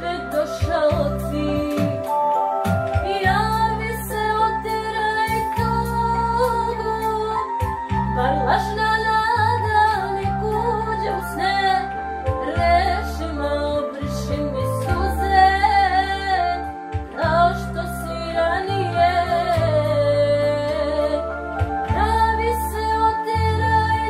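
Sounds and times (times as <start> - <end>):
electronic keyboard chords: 0.0 - 24.0
woman singing: 0.0 - 24.0.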